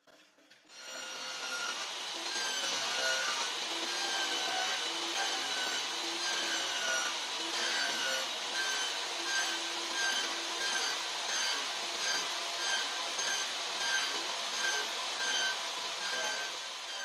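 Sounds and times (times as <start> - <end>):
table saw cutting wood: 0.7 - 17.0.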